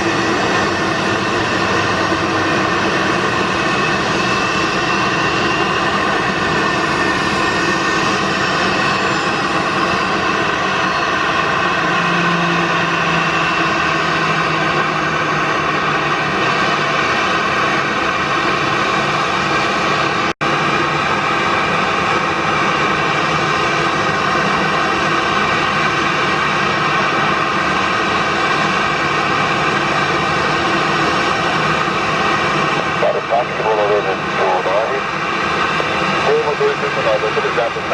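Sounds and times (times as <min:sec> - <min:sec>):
jet engines whining: 0:00.0 - 0:37.9.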